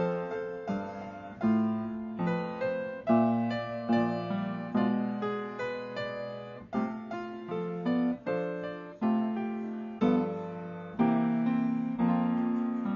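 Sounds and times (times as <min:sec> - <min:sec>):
slow piano chords: 0:00.0 - 0:12.9.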